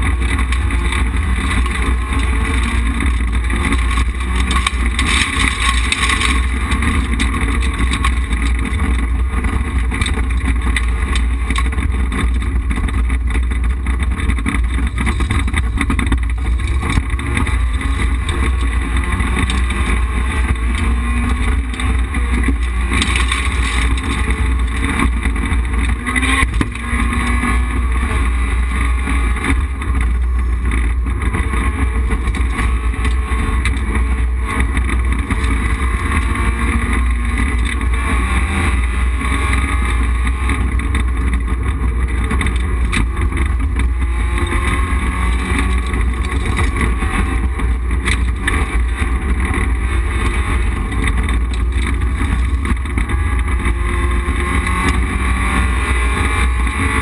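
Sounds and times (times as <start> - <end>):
rally car engine running hard: 0.0 - 57.0
tyre and road noise: 0.0 - 57.0.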